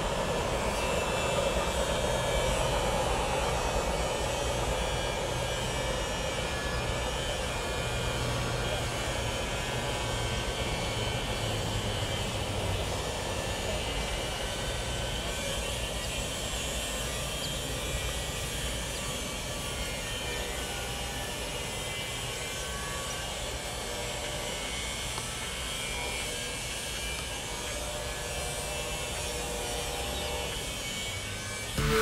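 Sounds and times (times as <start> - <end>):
freight train rumbling and rattling: 0.0 - 31.6.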